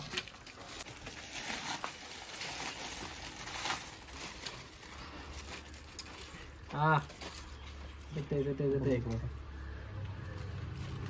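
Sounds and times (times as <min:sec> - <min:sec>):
aluminium foil crinkling: 0:00.0 - 0:09.3.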